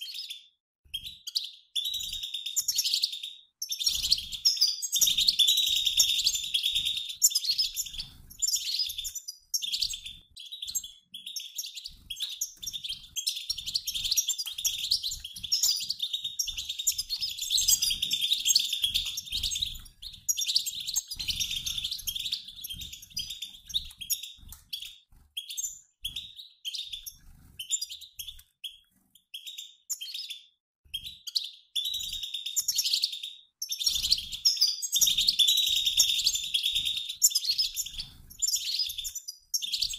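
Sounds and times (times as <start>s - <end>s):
goldfinch flock twittering: 1.3s - 28.4s, 31.3s - 39.9s.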